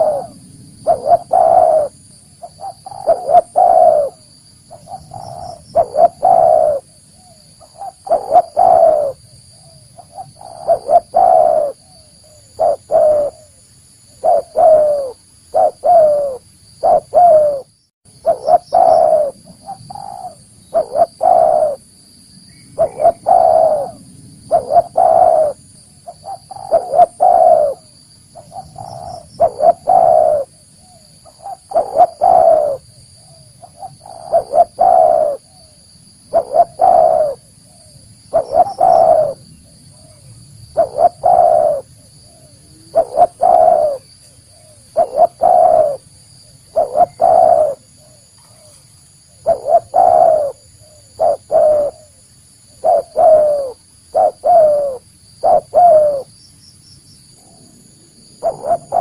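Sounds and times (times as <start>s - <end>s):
dove cooing: 0.0s - 21.9s, 22.8s - 56.3s, 57.4s - 59.0s.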